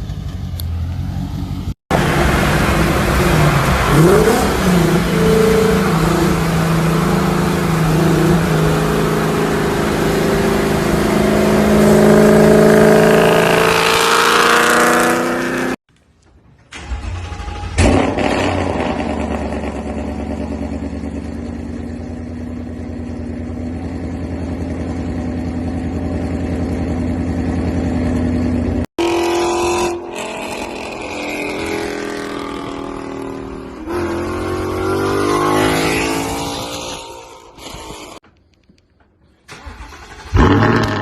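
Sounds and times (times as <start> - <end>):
car engine revving: 0.0 - 15.8, 17.2 - 38.2
car engine at high revs: 0.5 - 15.8, 17.8 - 38.2, 40.2 - 41.0.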